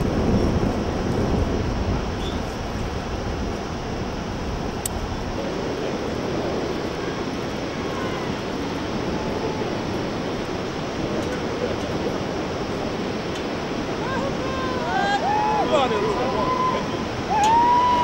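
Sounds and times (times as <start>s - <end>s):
distant river water: 0.0s - 18.0s
wind rushing: 0.0s - 18.0s.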